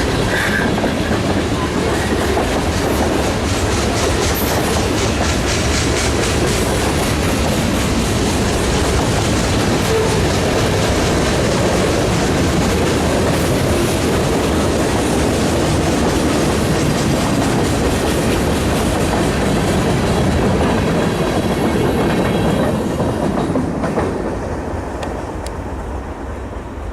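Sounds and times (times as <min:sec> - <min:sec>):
train rumbling and rattling: 0:00.0 - 0:26.9.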